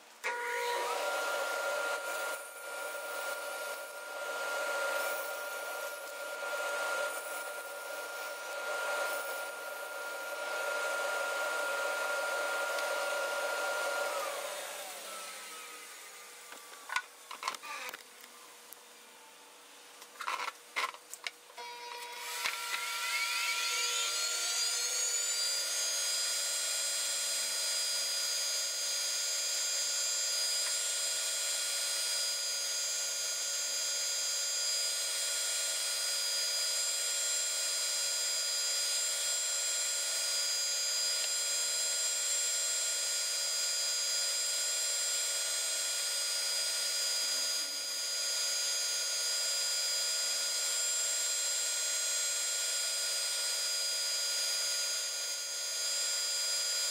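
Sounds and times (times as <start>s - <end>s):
scroll saw motor whining: 0.2s - 19.4s, 21.6s - 56.9s.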